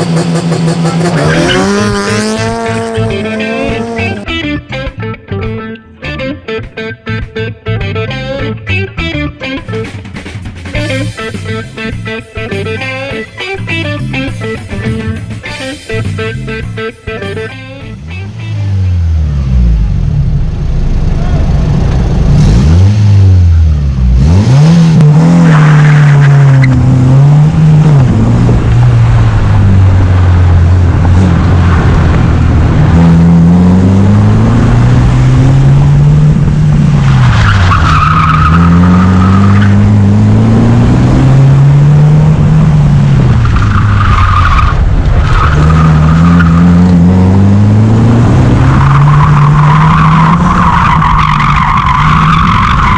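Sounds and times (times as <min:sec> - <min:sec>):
car engine revving: 0:00.0 - 0:04.6, 0:09.7 - 0:52.9.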